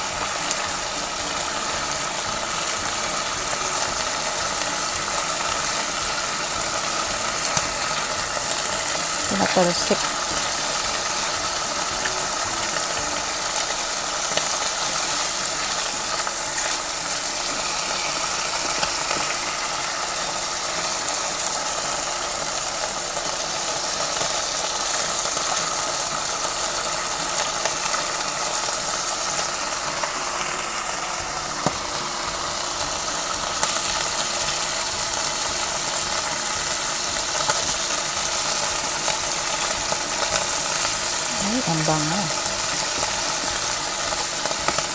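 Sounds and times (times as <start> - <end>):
liver and onions sizzling in oil: 0.0 - 44.9.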